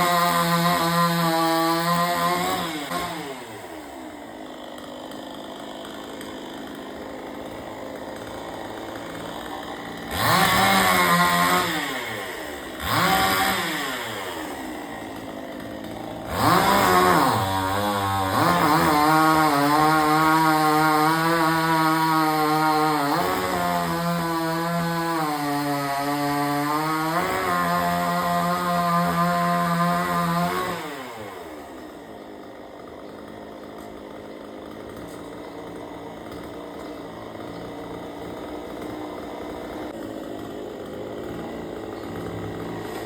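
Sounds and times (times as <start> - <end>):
chainsaw engine idling and revving: 0.0 - 43.0.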